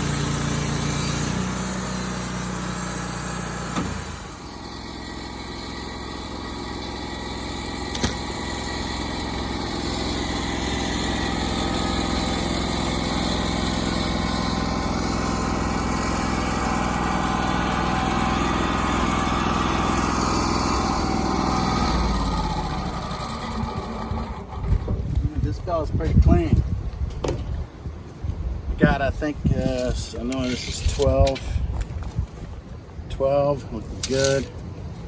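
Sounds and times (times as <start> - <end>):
band sawmill sawing wood: 0.0 - 26.3, 29.1 - 31.7, 33.4 - 34.6.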